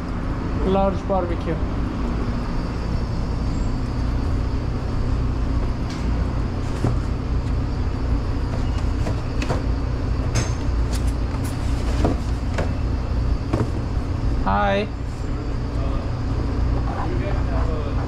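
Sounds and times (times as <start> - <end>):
kitchen machinery hum: 0.0 - 18.0.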